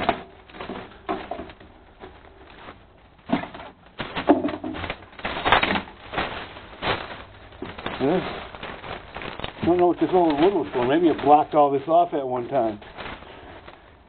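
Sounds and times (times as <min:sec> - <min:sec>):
footsteps on dry leaves and boards: 0:00.1 - 0:14.0.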